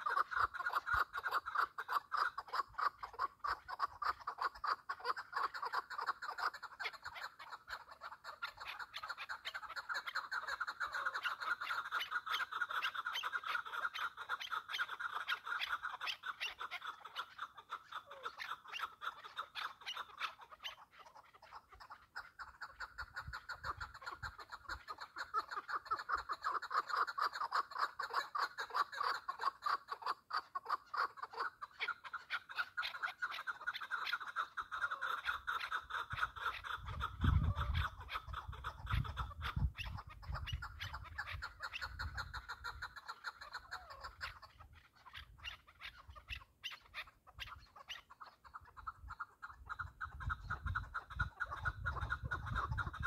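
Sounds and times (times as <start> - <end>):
partridge clucking call: 0.0 - 53.0.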